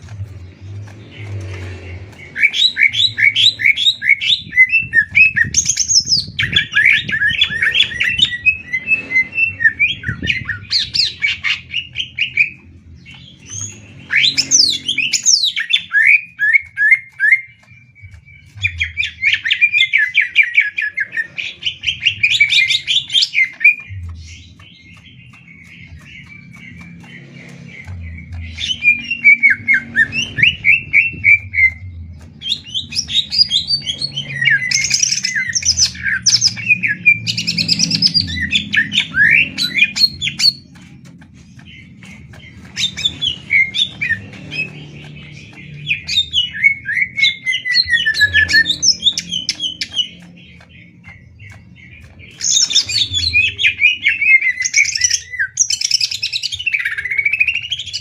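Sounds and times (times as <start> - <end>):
birds singing fast chirps: 0.0 - 58.0.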